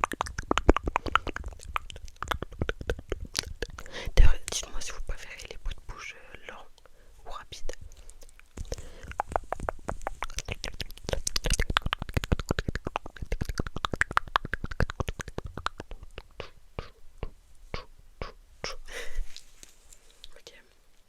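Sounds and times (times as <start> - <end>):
wet tongue and lip clicks: 0.0 - 5.8, 7.6 - 20.6.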